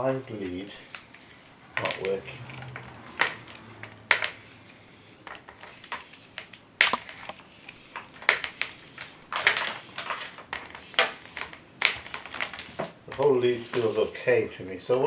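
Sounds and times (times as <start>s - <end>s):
cord rustling in hands: 0.0s - 14.5s.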